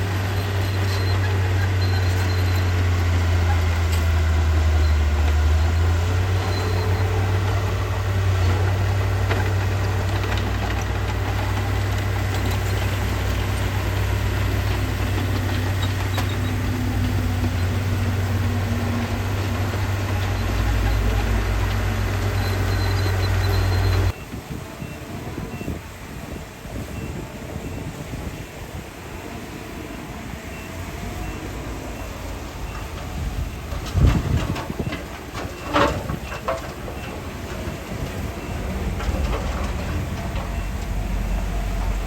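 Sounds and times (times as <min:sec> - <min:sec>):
diesel engine humming: 0:00.0 - 0:42.0.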